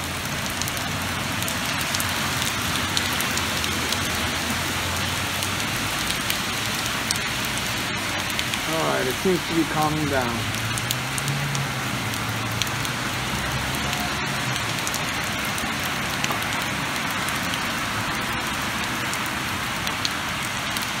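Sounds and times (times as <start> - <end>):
rain falling steadily: 0.0 - 21.0.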